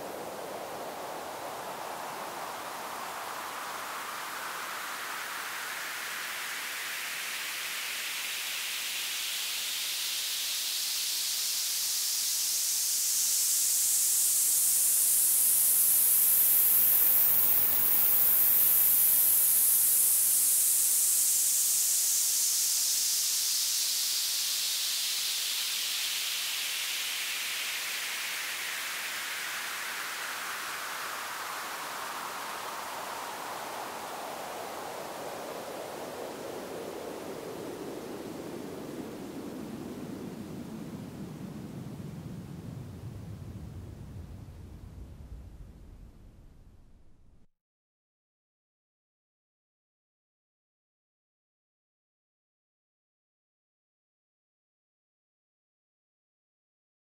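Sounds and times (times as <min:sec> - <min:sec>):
white noise sweep: 0:00.0 - 0:47.5.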